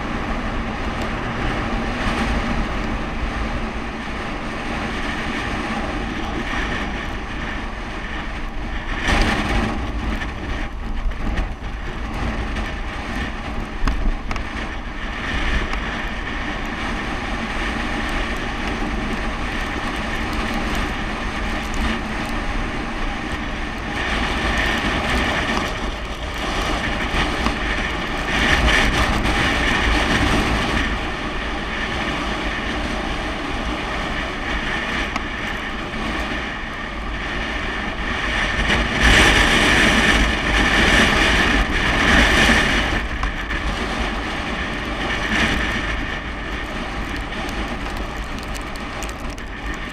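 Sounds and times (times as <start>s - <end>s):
bicycle road noise rumbling: 0.0s - 49.9s
wind rushing on microphone: 0.0s - 49.9s.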